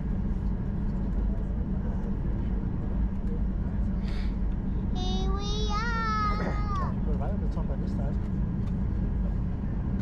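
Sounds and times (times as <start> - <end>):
low rumble of aircraft cabin: 0.0 - 10.0.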